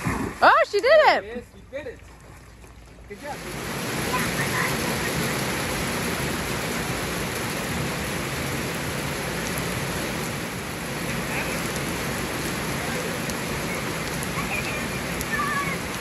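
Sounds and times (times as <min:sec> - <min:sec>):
heavy rain on pool water: 0:02.9 - 0:16.0.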